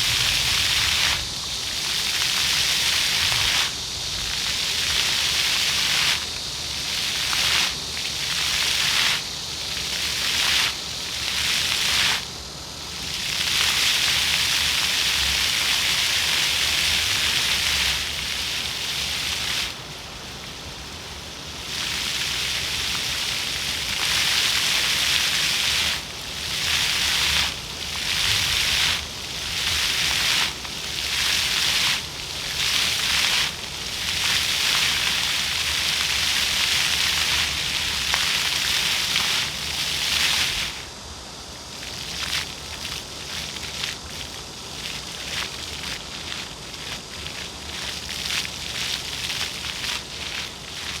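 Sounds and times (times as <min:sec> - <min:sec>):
fountain jets splashing on paving: 0:00.0 - 0:51.0.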